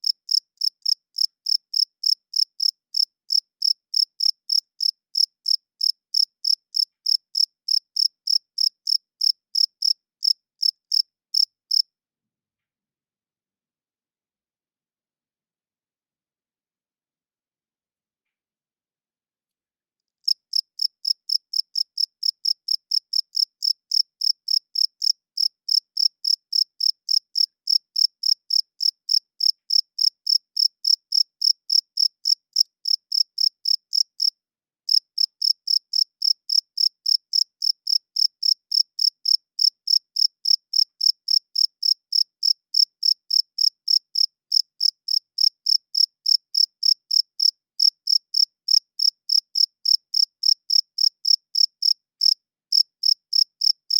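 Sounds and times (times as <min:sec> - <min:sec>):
cricket chirping: 0:00.0 - 0:11.8, 0:20.3 - 0:34.3, 0:34.9 - 0:53.9.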